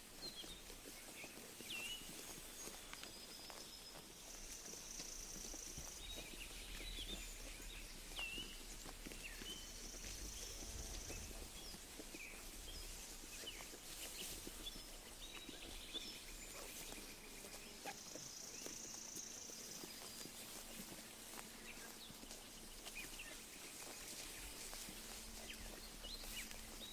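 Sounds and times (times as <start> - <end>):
sheep chewing grass: 0.0 - 26.9
small birds chirping: 0.0 - 26.9.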